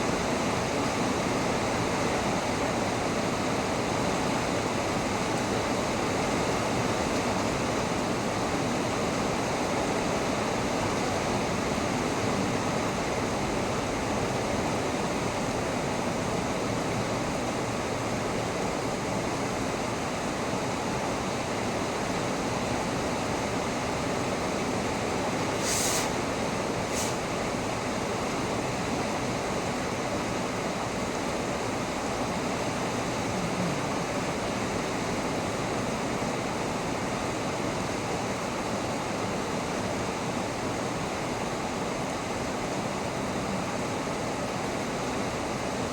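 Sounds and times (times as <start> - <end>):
heavy rain: 0.1 - 45.9.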